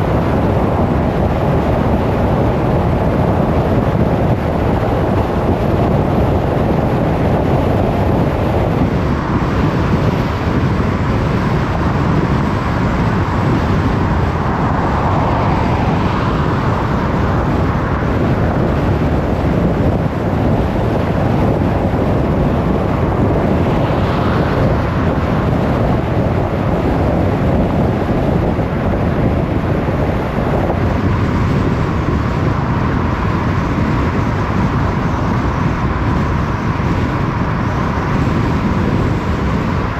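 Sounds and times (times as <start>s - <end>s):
road and tyre noise: 0.0s - 39.9s
wind: 0.0s - 39.9s.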